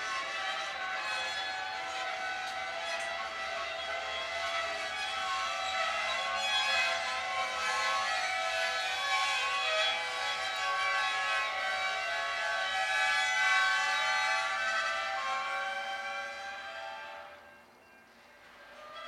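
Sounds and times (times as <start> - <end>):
train wheels squealing: 0.0 - 19.0.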